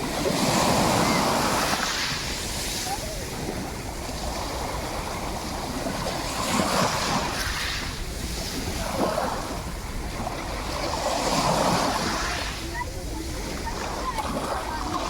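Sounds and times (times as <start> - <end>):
sea waves washing in: 0.0 - 15.0.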